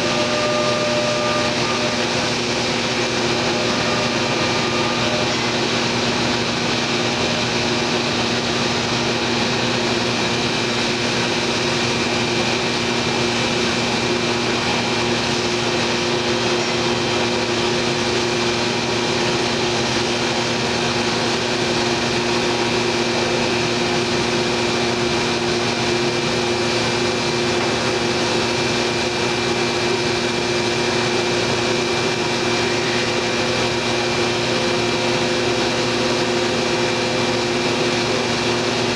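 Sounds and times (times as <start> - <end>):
router machine humming and whining: 0.0 - 38.9.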